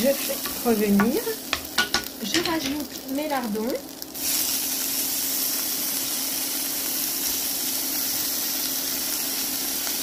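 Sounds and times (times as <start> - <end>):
bacon and onions sizzling in oil: 0.0 - 10.0.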